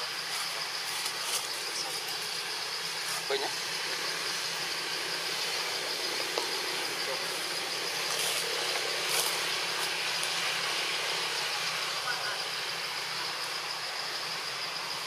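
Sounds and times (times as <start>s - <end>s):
insects trilling: 0.0s - 15.0s
outdoor background hiss: 0.0s - 15.0s.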